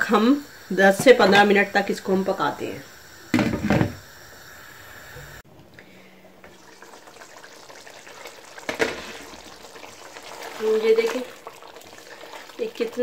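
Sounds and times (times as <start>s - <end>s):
food simmering in a pan: 0.0s - 13.0s.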